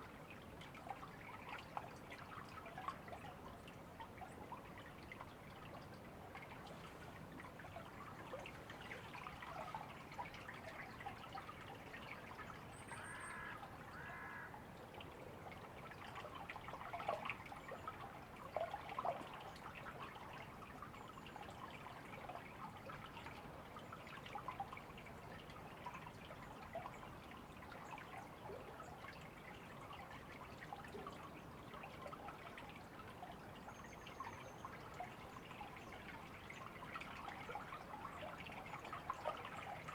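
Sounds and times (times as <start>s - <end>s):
river water babbling: 0.1s - 39.9s
small water splashes: 0.1s - 39.9s.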